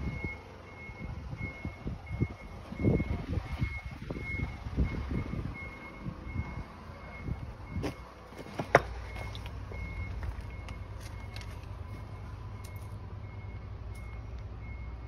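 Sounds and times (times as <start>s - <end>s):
reversing alarm beeping: 0.0s - 15.0s
work vehicle engine rumbling: 0.0s - 15.0s.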